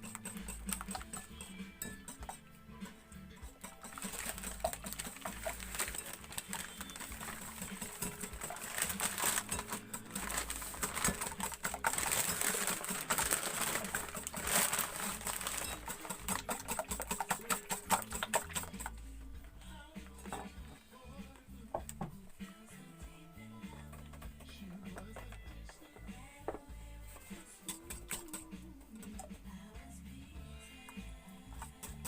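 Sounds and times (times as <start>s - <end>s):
utensil beating mixture in bowl: 0.0s - 21.4s, 23.7s - 29.7s, 30.8s - 32.0s.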